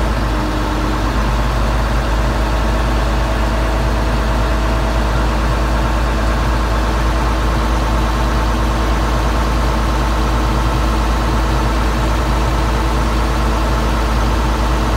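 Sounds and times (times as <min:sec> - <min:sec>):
boat engine deep rumble: 0:00.0 - 0:14.9.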